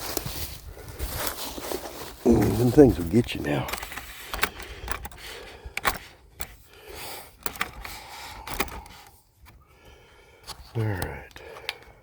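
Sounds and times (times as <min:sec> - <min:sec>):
faint rustling: 0:00.0 - 0:09.6.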